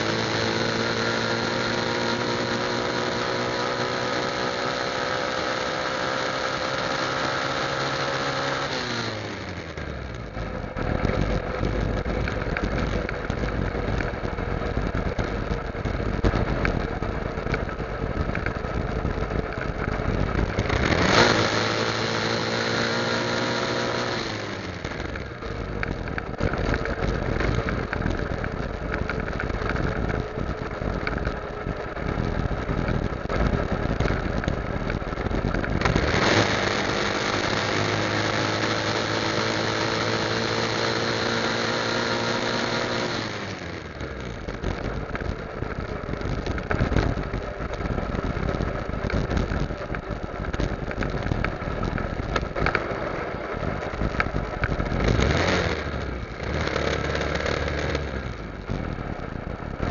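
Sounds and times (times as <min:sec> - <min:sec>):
motorcycle engine running: 0:00.0 - 0:59.9
rough road noise: 0:00.0 - 0:59.9
wind noise: 0:09.1 - 0:41.3, 0:42.0 - 0:59.9.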